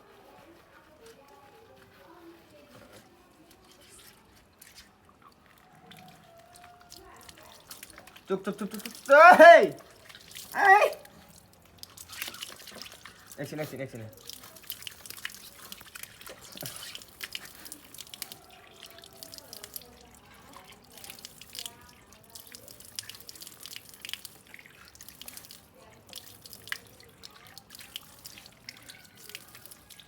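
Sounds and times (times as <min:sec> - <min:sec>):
water dripping and splashing: 0:03.4 - 0:30.0.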